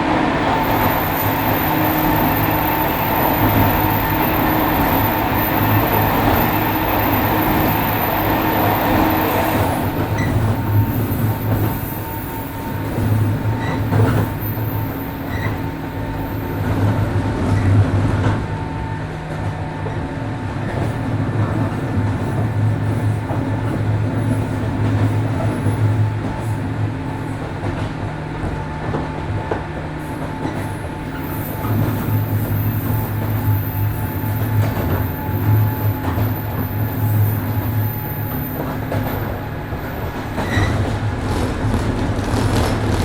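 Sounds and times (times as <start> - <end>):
train motors and wheels humming: 0.0 - 43.0.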